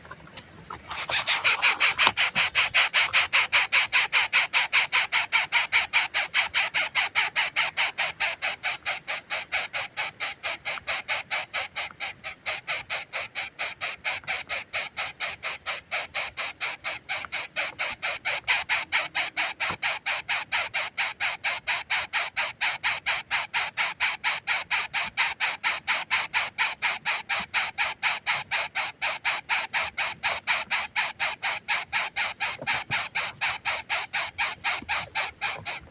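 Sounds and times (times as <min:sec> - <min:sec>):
baby bird begging calls: 0:00.9 - 0:35.8.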